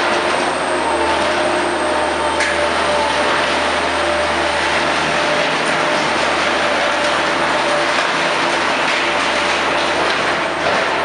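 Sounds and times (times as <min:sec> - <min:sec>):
skid-steer loader engine running: 0:00.0 - 0:11.0.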